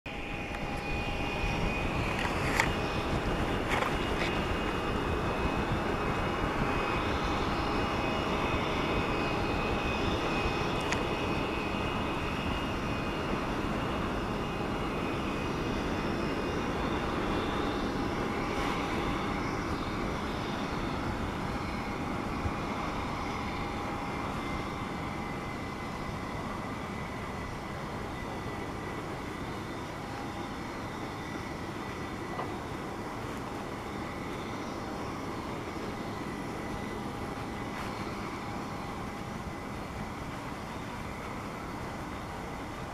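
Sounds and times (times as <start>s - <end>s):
jet engines whining: 0.1s - 42.9s.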